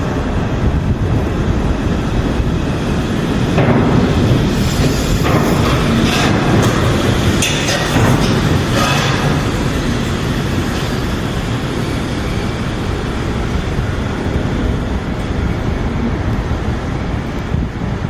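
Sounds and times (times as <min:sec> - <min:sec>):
vehicles rumbling and hissing: 0:00.0 - 0:18.0.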